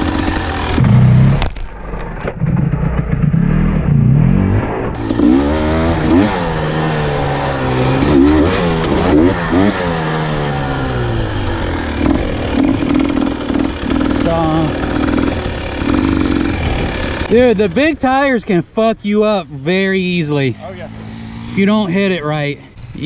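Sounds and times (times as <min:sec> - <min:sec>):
dirt bike engine revving: 0:00.0 - 0:01.5, 0:02.4 - 0:18.4, 0:20.0 - 0:23.0.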